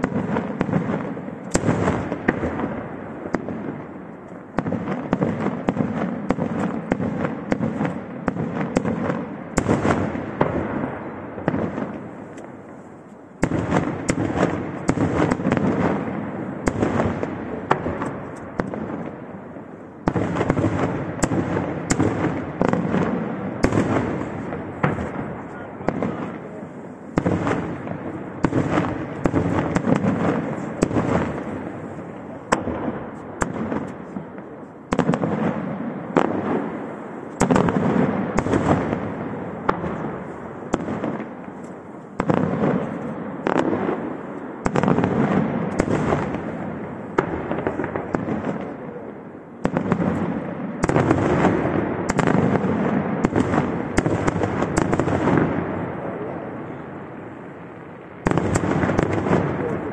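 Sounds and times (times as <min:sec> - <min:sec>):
firework bangs: 0:00.0 - 0:59.9
firework crackling: 0:00.0 - 0:59.9.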